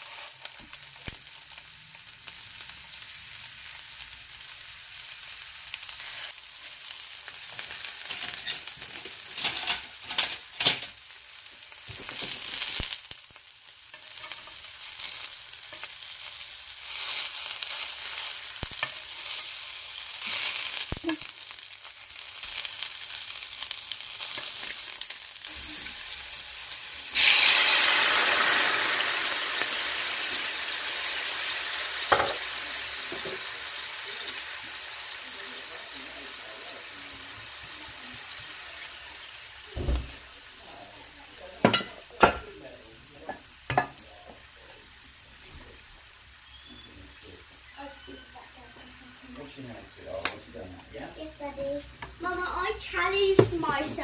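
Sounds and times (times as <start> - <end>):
liquid hissing in hot pan: 0.0 - 47.9
meatballs sizzling in a pan: 0.0 - 54.0.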